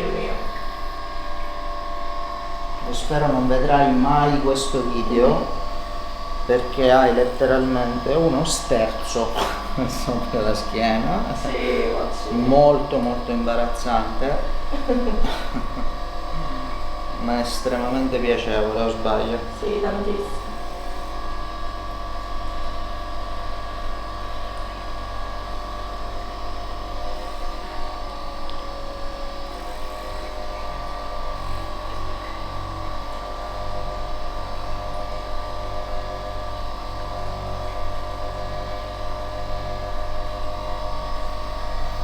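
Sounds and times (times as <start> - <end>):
electric massager buzzing: 0.0 - 42.0.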